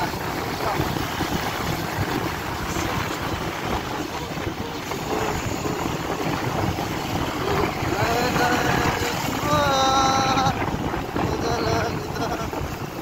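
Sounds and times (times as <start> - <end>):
motorbike engine running: 0.0 - 13.0
wind rushing over microphone: 0.0 - 13.0.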